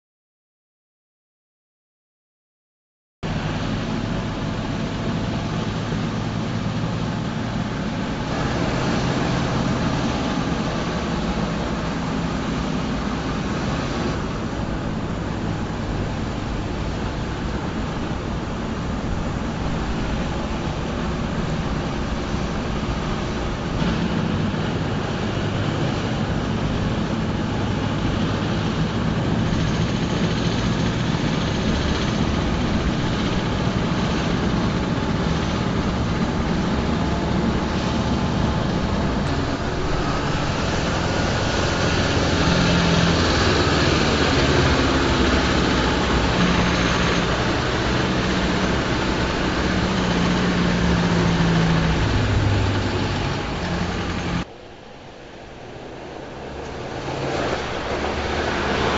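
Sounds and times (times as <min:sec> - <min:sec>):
diesel truck engine droning: 0:03.2 - 0:58.9
road and tyre noise: 0:03.2 - 0:58.9.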